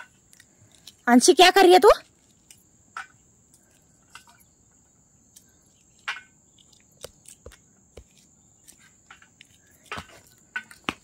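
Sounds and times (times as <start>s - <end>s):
bean pods being shelled: 0.0s - 1.4s, 2.0s - 11.0s
high insect trill: 0.0s - 11.0s.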